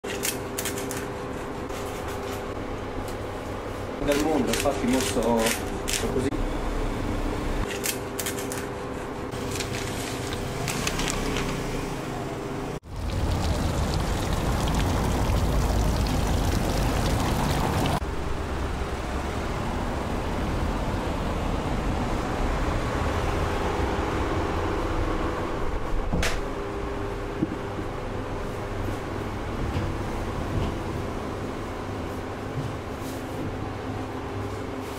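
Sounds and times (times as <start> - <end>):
outdoor street noise rumble: 0.0 - 34.9.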